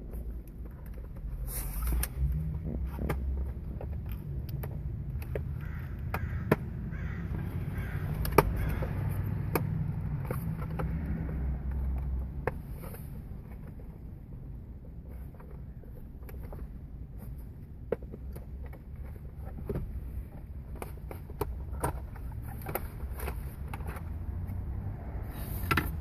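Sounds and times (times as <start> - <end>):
low rumbling handling noise: 0.0 - 26.0.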